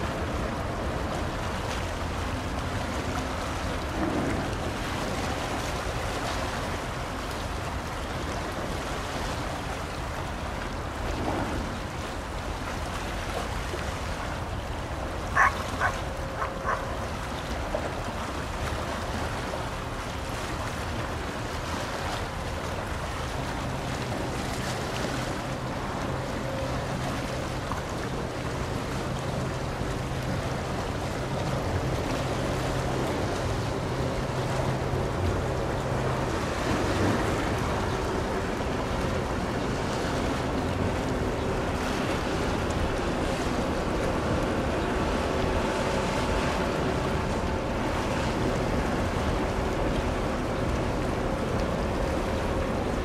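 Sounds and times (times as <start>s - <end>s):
water and wind on microphone: 0.0s - 53.0s.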